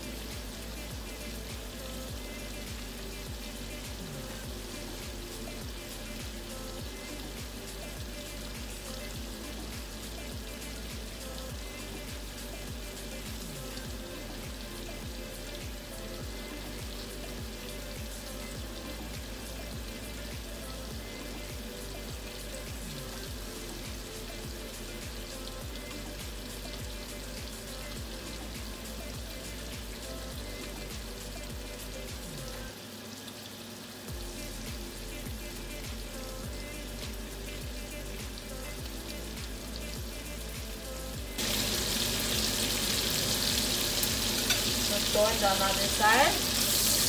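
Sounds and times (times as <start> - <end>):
background music: 0.0 - 33.1, 34.0 - 47.0
meat sizzling in frying pan: 0.0 - 47.0.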